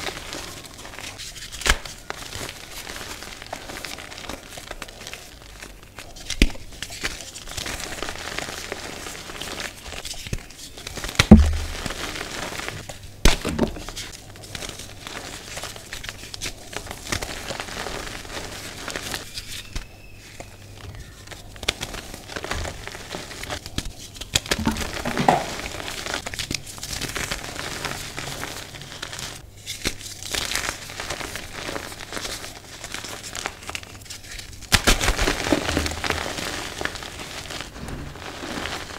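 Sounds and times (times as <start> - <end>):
hands crushing chalk: 6.1 - 37.6.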